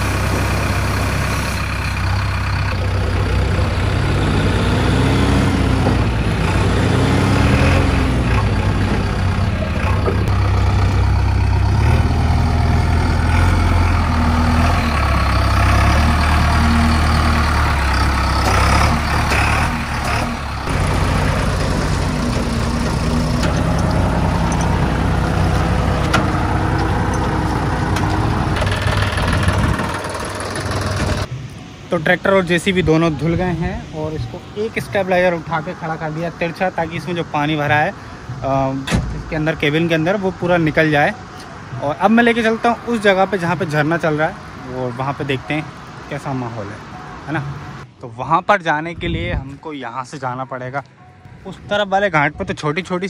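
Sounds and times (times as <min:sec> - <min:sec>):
diesel engines revving: 0:00.0 - 0:48.0.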